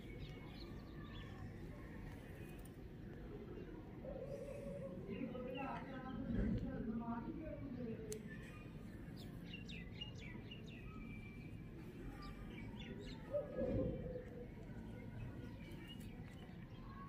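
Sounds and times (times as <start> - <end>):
birds chirping: 0.0 - 6.4, 7.1 - 17.0.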